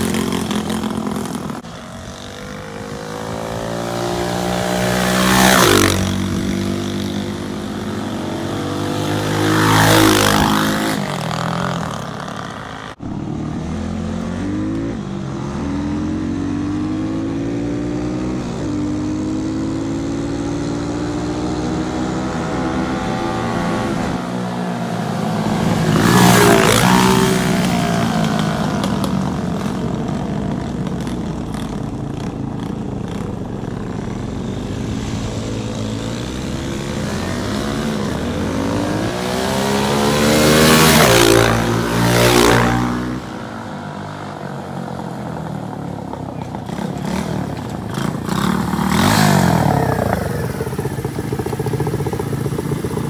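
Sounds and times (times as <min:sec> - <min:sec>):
dirt bike engines passing: 0:00.0 - 0:53.0.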